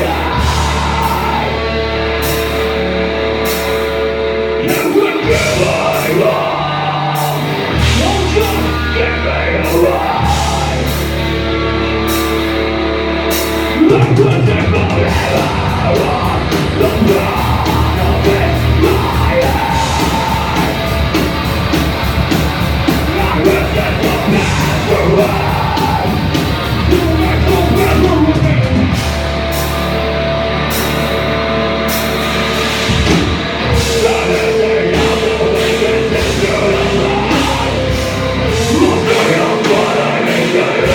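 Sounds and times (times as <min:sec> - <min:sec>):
person singing and yelling: 0:00.0 - 0:02.6, 0:04.6 - 0:12.1, 0:13.7 - 0:29.2, 0:33.3 - 0:40.9
drums: 0:00.0 - 0:40.9
heavy rock band playing: 0:00.0 - 0:40.9.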